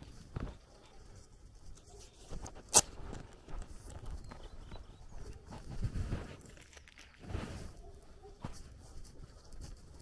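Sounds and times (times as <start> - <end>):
footsteps walking: 0.1 - 10.0.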